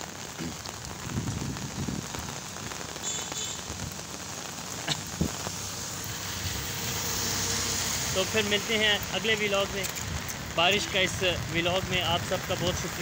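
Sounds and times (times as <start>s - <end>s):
rain on wet pavement: 0.0s - 13.0s.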